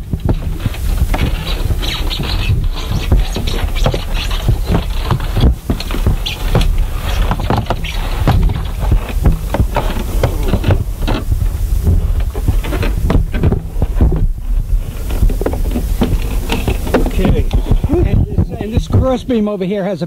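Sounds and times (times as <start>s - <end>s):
footsteps knocking on walkway: 0.0s - 19.4s
low rumble: 0.0s - 19.4s.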